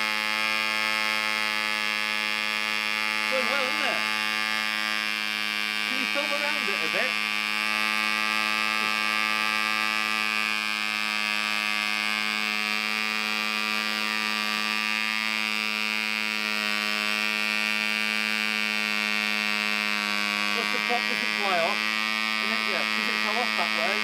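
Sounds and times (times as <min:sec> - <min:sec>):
model engine high buzz: 0:00.0 - 0:24.0.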